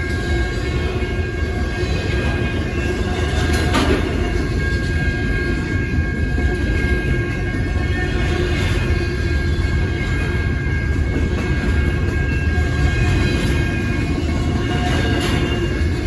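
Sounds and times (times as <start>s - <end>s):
freight train cars rumbling past: 0.0s - 16.0s.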